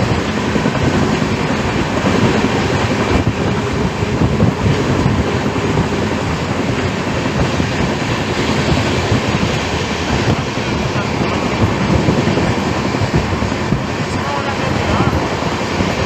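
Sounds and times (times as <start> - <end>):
train coach rumbling on rails: 0.0 - 16.0.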